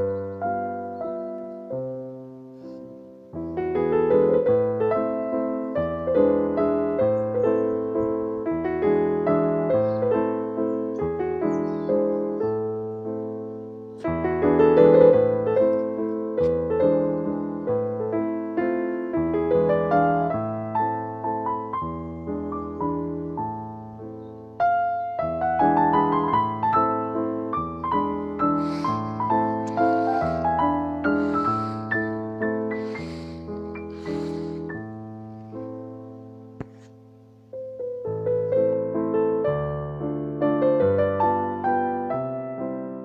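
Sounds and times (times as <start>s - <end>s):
calm piano music: 0.0s - 43.0s.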